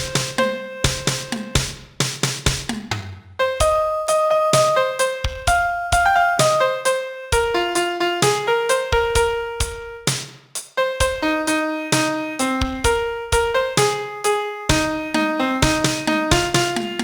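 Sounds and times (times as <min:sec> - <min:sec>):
slow piano melody: 0:00.0 - 0:01.7, 0:03.4 - 0:10.1, 0:10.8 - 0:17.0.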